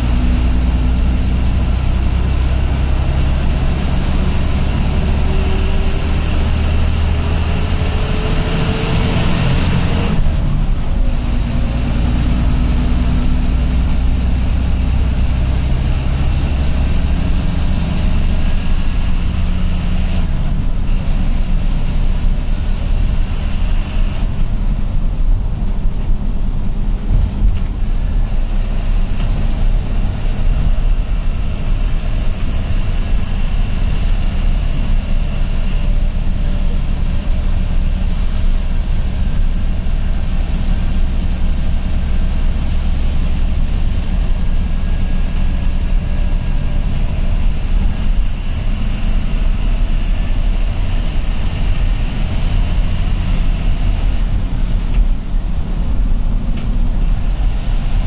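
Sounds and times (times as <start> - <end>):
diesel bus engine running: 0.0 - 58.0
road noise: 0.0 - 58.0.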